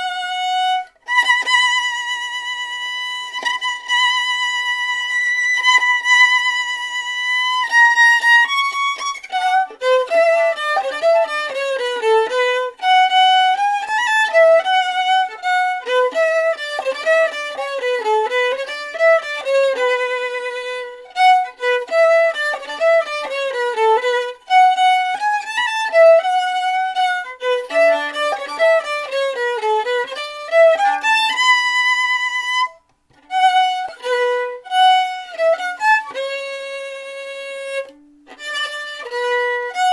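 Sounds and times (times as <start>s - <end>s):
violin music: 0.0s - 39.9s.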